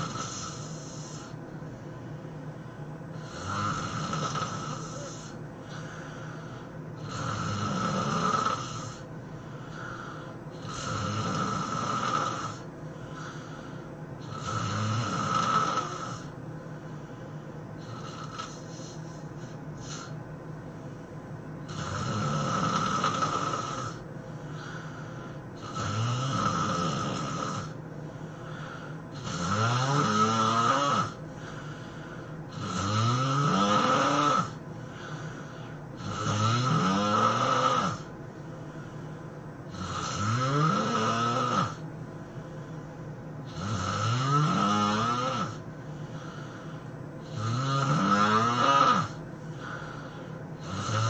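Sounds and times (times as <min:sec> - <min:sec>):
person snoring: 0:00.0 - 0:01.4, 0:03.1 - 0:17.0, 0:17.8 - 0:20.2, 0:21.6 - 0:41.8, 0:43.4 - 0:51.0.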